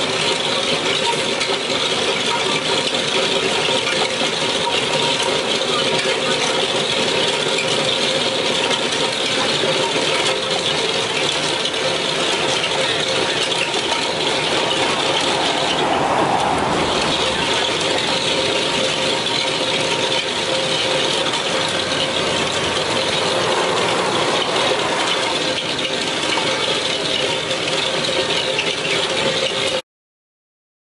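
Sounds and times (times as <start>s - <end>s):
drum cutter grinding asphalt: 0.0s - 29.8s
excavator engine and hydraulics: 0.0s - 29.8s.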